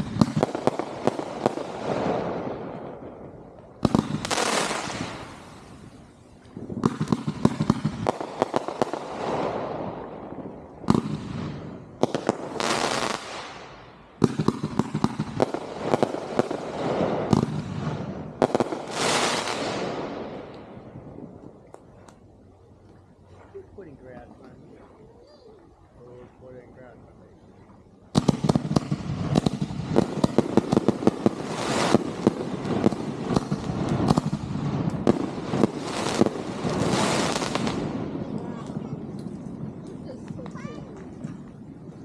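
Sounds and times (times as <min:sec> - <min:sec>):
fireworks cracking and popping: 0:00.0 - 0:23.0, 0:28.1 - 0:42.0.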